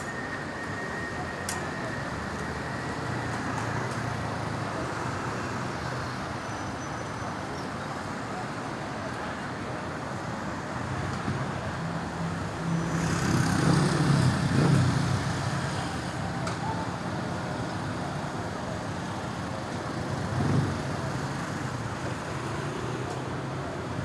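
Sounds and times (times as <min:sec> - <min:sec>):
road traffic: 0:00.0 - 0:24.0.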